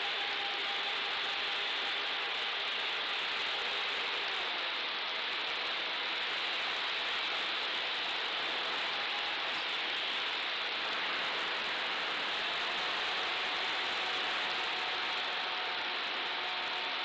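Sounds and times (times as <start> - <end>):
airflow and propeller hiss: 0.0 - 17.0
faint motor whine: 0.0 - 17.0.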